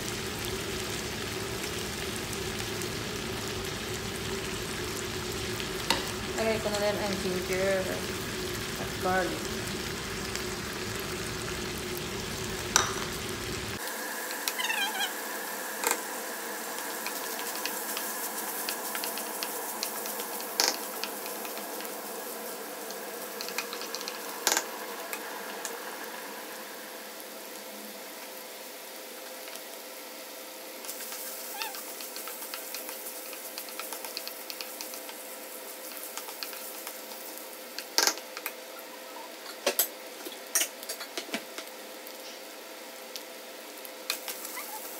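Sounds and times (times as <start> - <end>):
meat sizzling in a frying pan: 0.0 - 44.9.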